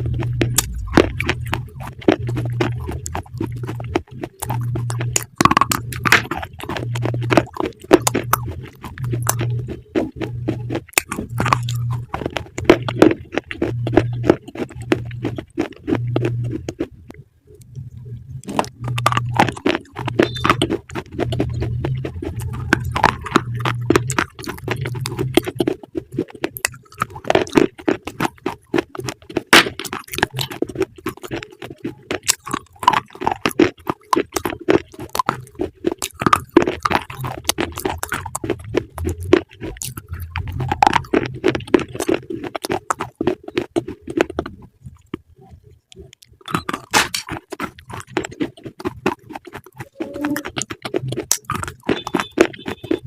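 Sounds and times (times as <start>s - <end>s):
crunching crisp food: 0.0s - 16.9s, 18.4s - 45.3s, 45.9s - 53.0s
low hum: 0.0s - 47.3s.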